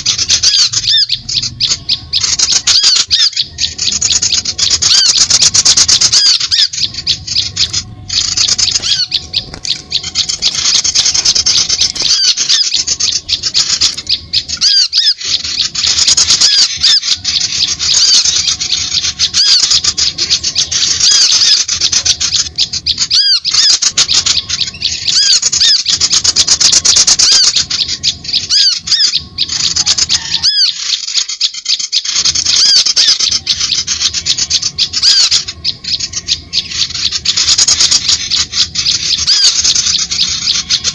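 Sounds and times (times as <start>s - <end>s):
songbirds chattering and trilling: 0.0s - 40.9s.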